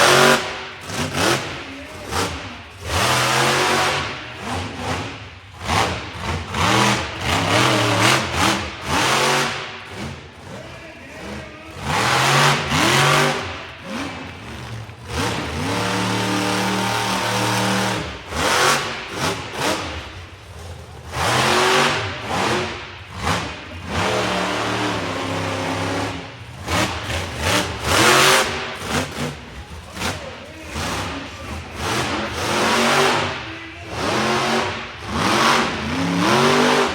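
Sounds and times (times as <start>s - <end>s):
monster truck engine revving: 0.0s - 36.9s.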